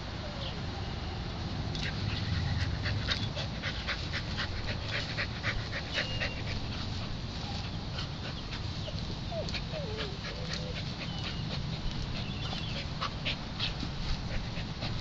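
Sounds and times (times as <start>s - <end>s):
dog panting: 1.8s - 15.0s.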